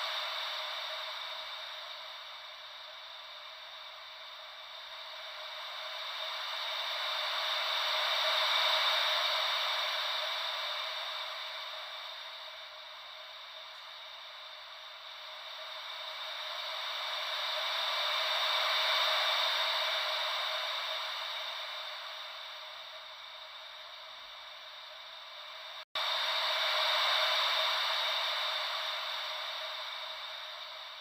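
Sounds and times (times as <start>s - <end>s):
soft ocean wave hiss: 0.0s - 31.0s.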